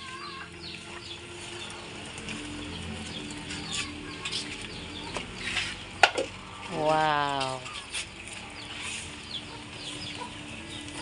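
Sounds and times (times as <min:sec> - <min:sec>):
birds chirping: 0:00.0 - 0:11.0
wood fire crackling: 0:00.0 - 0:11.0.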